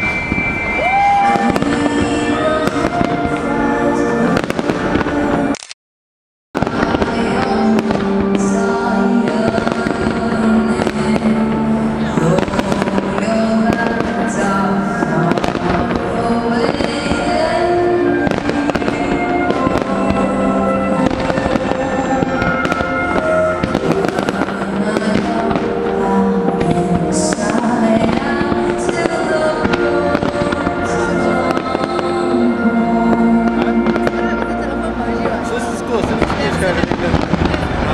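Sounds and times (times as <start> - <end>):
fireworks bursting: 0.0 - 5.6, 6.6 - 37.9
music playing: 0.0 - 5.6, 6.6 - 37.9.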